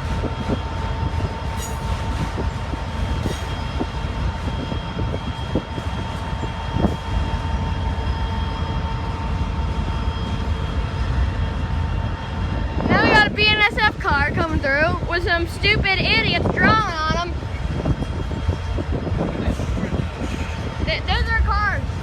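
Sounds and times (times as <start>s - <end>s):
freight cars rumbling: 0.0s - 22.0s
wheels squealing on rails: 0.0s - 22.0s.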